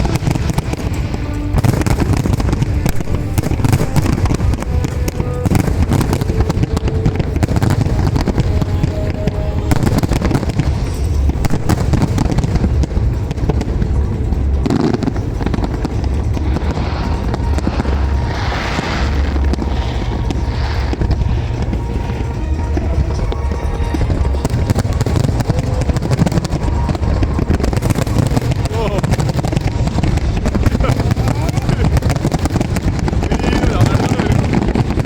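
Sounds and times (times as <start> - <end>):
fireworks crackling and banging: 0.0 - 35.0
low rumble: 0.0 - 35.0
music playing: 0.0 - 35.0.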